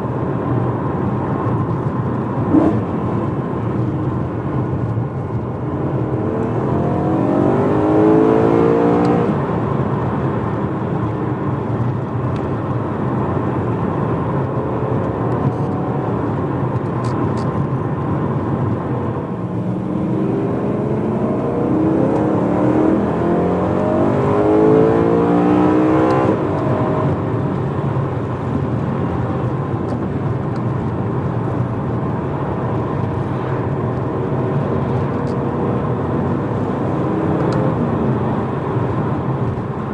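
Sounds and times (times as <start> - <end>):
car engine accelerating and cruising: 0.0 - 39.9.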